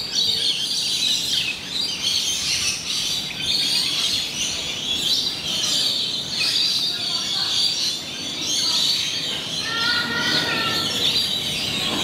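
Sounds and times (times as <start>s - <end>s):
many birds chirping: 0.0s - 12.0s.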